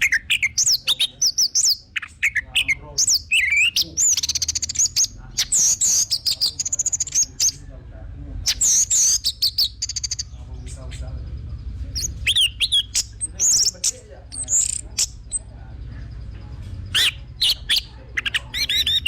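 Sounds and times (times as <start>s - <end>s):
bird singing whistles and trills: 0.0s - 7.7s, 8.4s - 10.9s, 12.0s - 15.5s, 16.9s - 19.0s.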